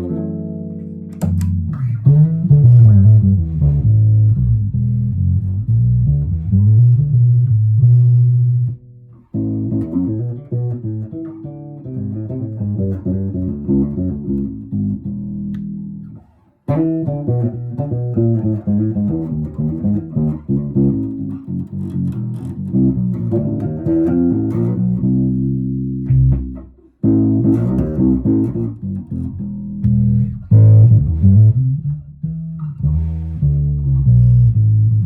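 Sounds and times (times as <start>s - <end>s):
electric bass plucked notes: 0.0s - 35.0s.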